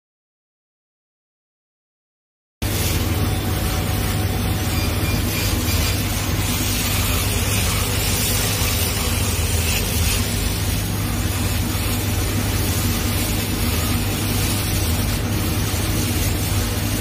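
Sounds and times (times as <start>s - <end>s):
laser cutting machine humming: 2.6s - 17.0s.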